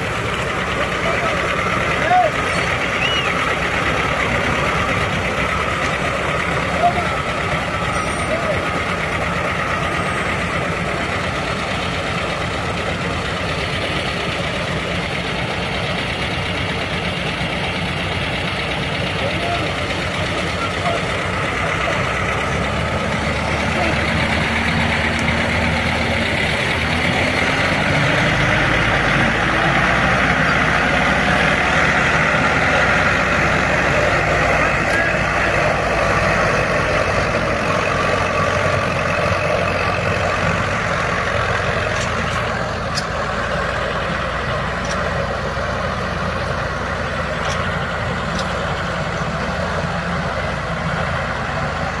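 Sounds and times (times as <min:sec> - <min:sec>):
tractor diesel engines revving: 0:00.0 - 0:52.0.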